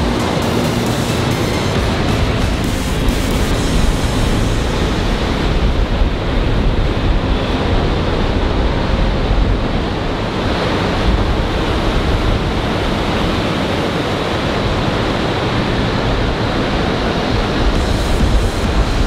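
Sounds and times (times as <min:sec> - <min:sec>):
sea wind: 0:00.0 - 0:19.0
surf rushing: 0:00.0 - 0:19.0
wind buffeting microphone: 0:01.2 - 0:19.0.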